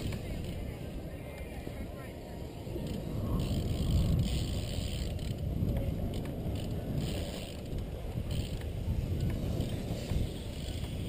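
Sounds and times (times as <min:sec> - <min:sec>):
bike tyres rumbling: 0:00.0 - 0:11.0
wind buffeting microphone: 0:00.0 - 0:11.0.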